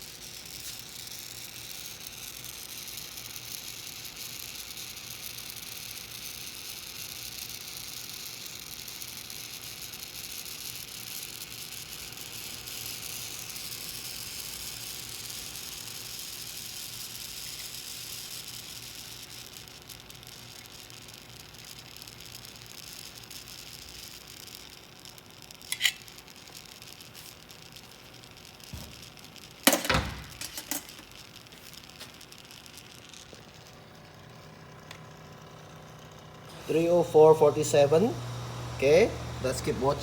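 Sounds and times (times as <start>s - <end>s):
inkjet printer hissing and humming: 0.0s - 40.0s.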